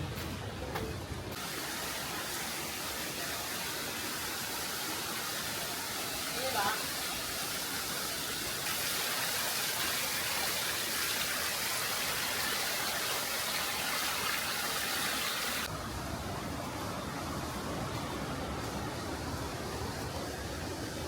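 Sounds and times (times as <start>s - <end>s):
dull low water noise: 0.0s - 21.0s
rushing water hiss: 1.4s - 21.0s.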